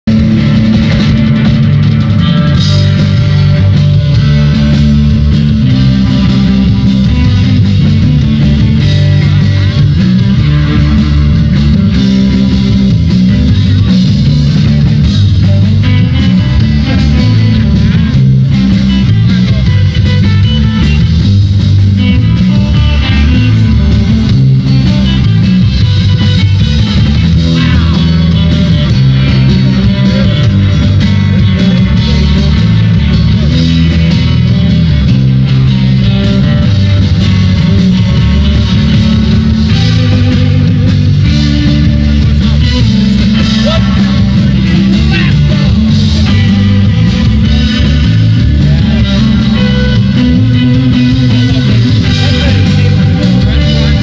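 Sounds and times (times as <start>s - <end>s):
drum kit: 0.0s - 54.0s
electric guitar: 0.0s - 54.0s
rock band playing: 0.0s - 54.0s.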